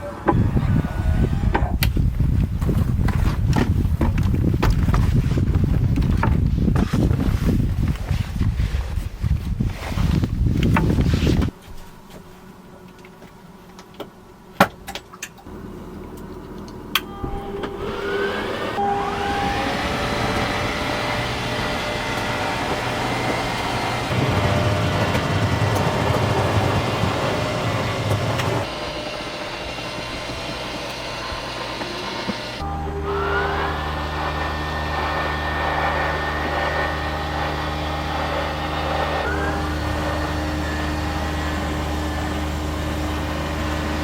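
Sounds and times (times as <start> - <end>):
vehicle engine whining: 0.0 - 14.5, 15.2 - 44.0.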